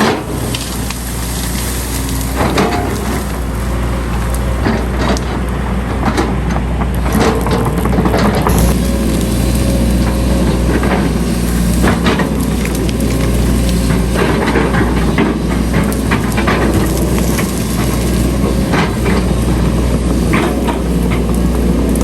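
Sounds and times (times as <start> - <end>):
diesel engine drone: 0.0 - 22.0
machinery clanks and knocks: 0.0 - 22.0.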